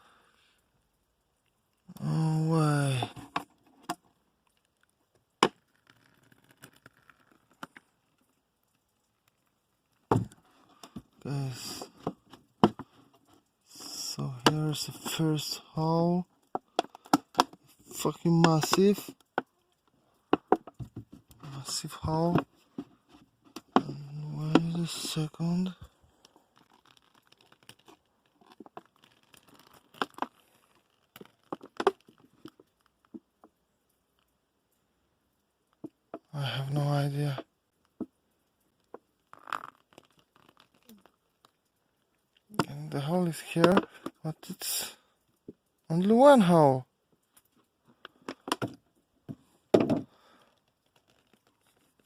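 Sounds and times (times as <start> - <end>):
faint clicks and rustles: 2.8 - 36.4, 37.2 - 44.3, 46.8 - 52.0.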